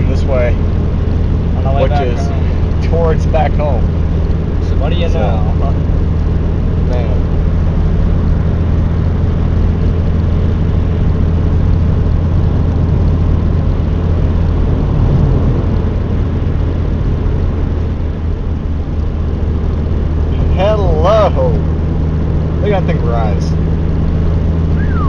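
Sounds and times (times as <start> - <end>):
low engine hum: 0.0 - 25.0
road noise: 0.0 - 25.0.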